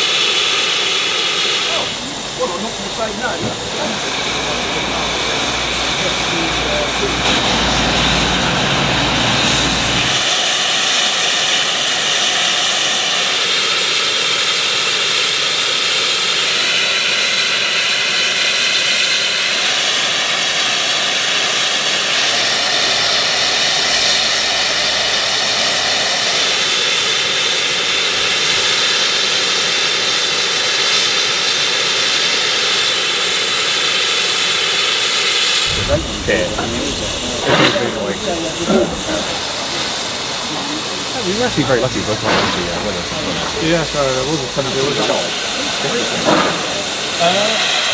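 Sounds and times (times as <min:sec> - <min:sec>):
steam locomotive hissing steam: 0:00.0 - 0:47.9.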